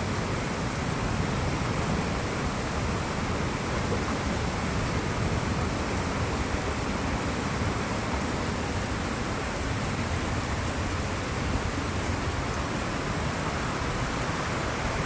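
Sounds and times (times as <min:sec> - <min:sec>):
flooded creek rushing: 0:00.0 - 0:15.0.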